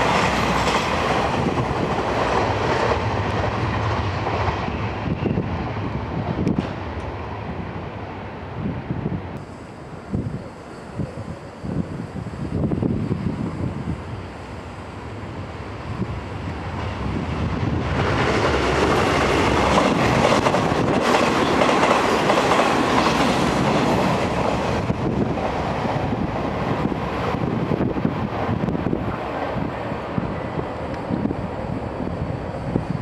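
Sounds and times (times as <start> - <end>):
electric train on rails: 0.0 - 33.0.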